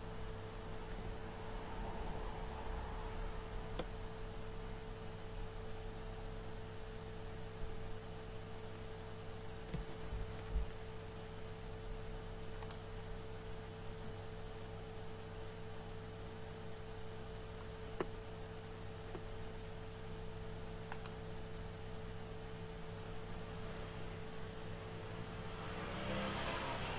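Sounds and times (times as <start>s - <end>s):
electrical hum: 0.0s - 26.9s.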